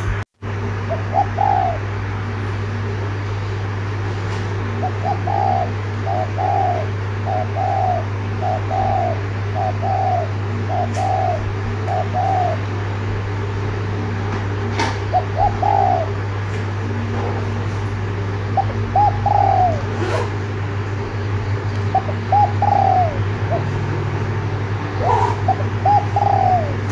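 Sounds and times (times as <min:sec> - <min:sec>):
steady low hum: 0:00.0 - 0:26.9
dove cooing: 0:00.8 - 0:03.1, 0:04.6 - 0:13.4, 0:14.1 - 0:17.6, 0:18.2 - 0:26.9.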